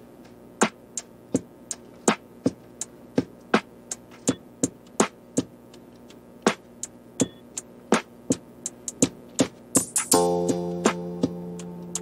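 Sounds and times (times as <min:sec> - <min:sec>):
electronic drum beat: 0:00.4 - 0:12.0.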